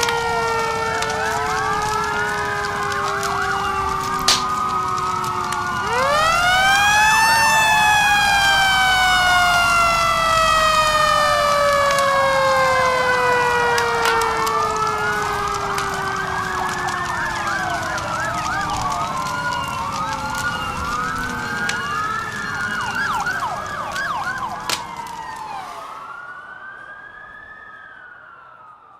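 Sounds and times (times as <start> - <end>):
fire crackling: 0.0 - 28.6
fire truck sirens wailing: 0.0 - 28.9.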